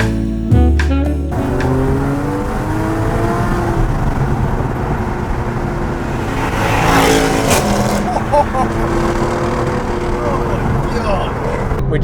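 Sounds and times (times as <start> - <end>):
car engine accelerating: 1.3 - 12.0.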